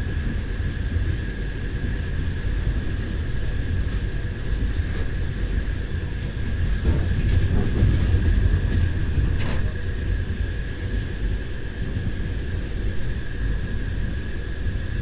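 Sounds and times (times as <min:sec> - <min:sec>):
wheels clattering over rails: 0:00.0 - 0:12.8
train rumbling on track: 0:00.0 - 0:15.0.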